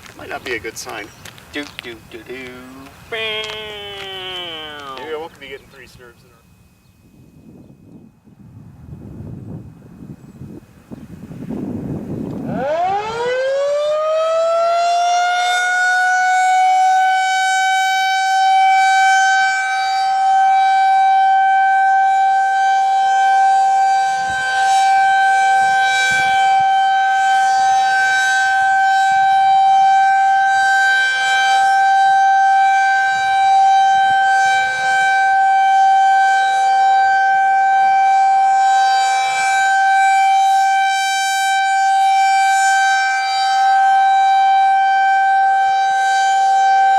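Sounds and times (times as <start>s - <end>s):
outdoor warning siren: 0.0s - 46.9s.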